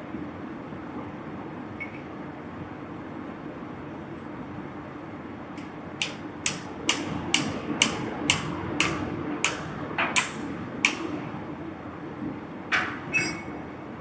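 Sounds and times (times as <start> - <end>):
low hum of machinery: 0.0 - 14.0.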